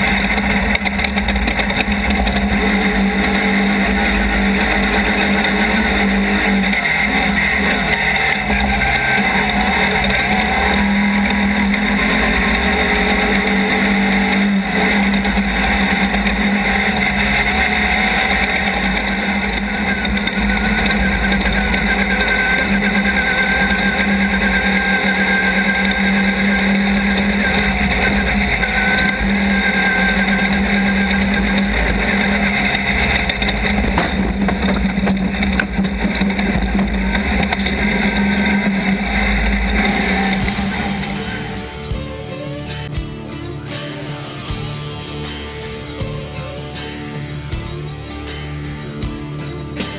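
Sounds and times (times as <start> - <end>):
dense rushing noise: 0.0 - 45.4
race car engine running hard: 0.0 - 49.9.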